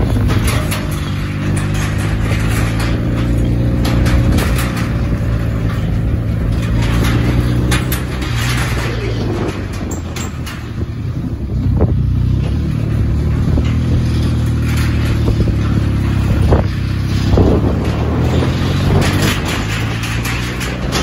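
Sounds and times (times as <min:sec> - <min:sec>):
motorcycle engine running: 0:00.0 - 0:21.0
motorcycles passing by: 0:00.0 - 0:21.0
wind noise on microphone: 0:00.0 - 0:21.0.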